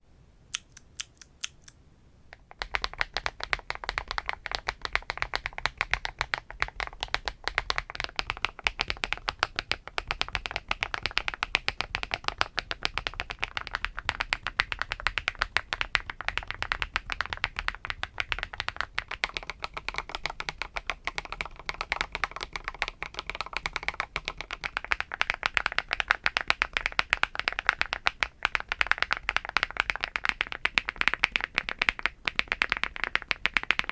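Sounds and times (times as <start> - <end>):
mechanical keyboard typing: 2.4 - 33.9.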